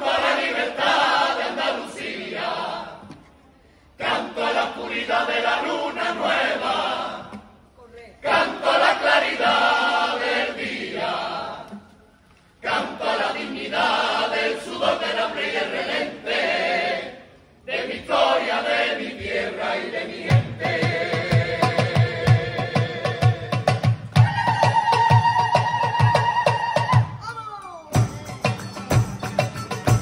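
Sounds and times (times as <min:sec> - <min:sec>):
mixed voices singing: 0:00.0 - 0:03.2, 0:03.9 - 0:07.6, 0:08.2 - 0:12.0, 0:12.6 - 0:27.0.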